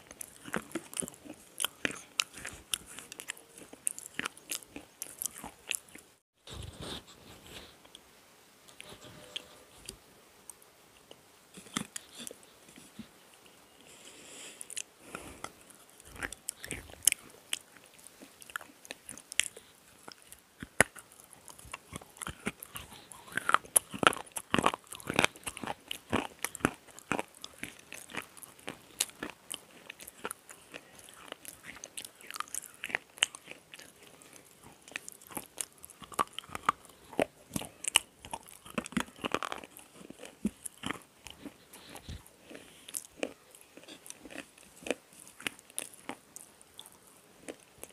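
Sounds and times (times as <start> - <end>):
crunchy chewing of slate: 0.0 - 6.2, 11.5 - 47.9.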